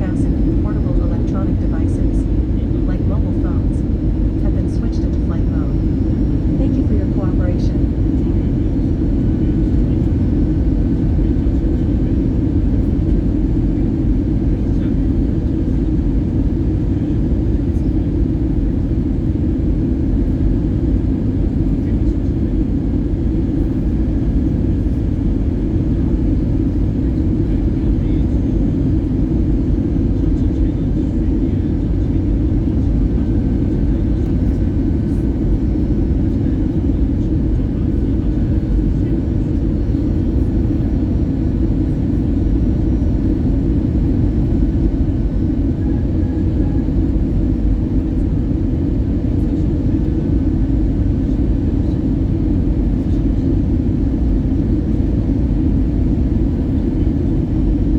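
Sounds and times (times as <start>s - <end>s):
airliner cabin engine drone: 0.0s - 57.9s.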